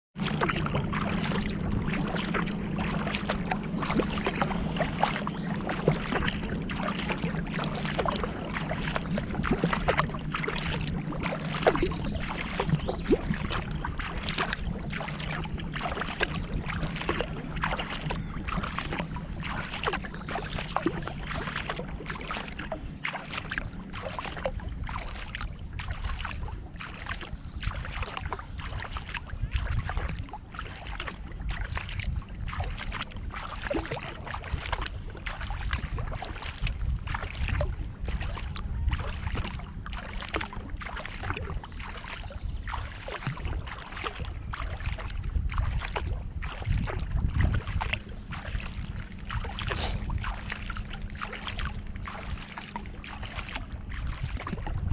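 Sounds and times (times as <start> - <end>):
water washing along hull: 0.1 - 54.9
paddle splashes and drips: 0.2 - 54.9.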